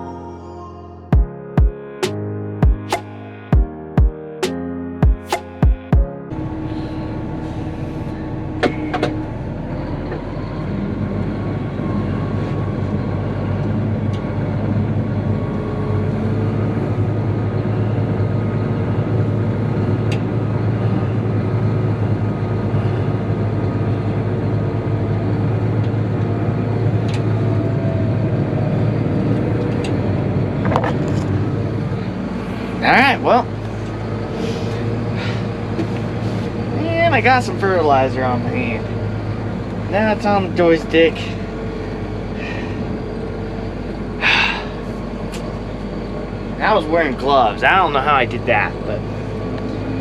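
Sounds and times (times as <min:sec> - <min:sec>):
tractor engine droning: 0:00.0 - 0:50.0.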